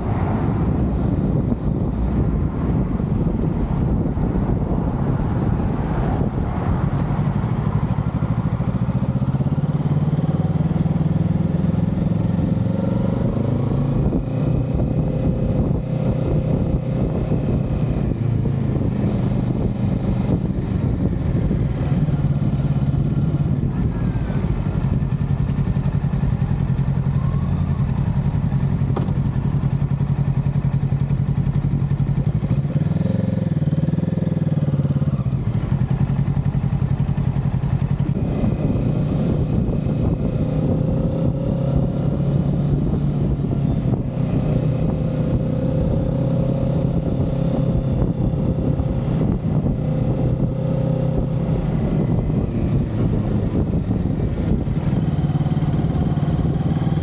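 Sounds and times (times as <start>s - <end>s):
wind rush on microphone: 0.0s - 10.7s, 11.9s - 57.0s
motorcycle engine cruising: 0.0s - 57.0s.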